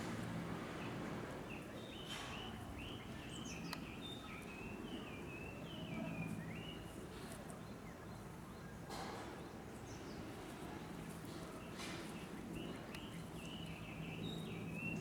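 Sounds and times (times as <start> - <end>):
low background noise: 0.0 - 15.0
small birds chirping: 0.7 - 8.8, 9.5 - 15.0.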